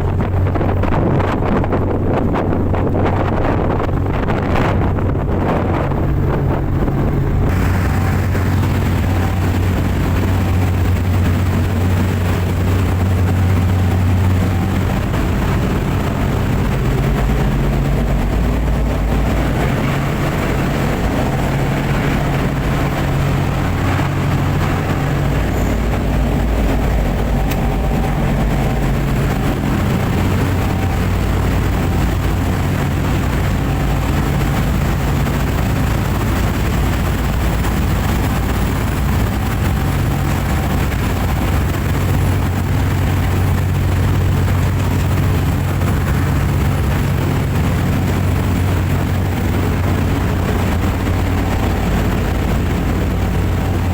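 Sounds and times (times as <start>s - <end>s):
boat engines droning: 0.0s - 53.9s
rushing water noise: 0.0s - 53.9s.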